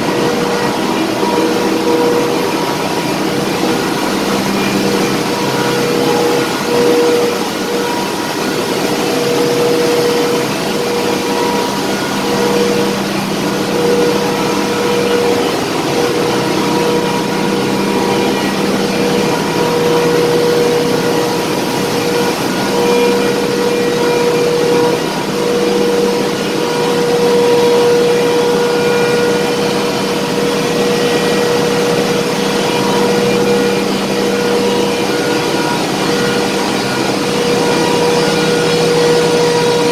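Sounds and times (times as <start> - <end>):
engine room machinery hum: 0.0 - 39.9.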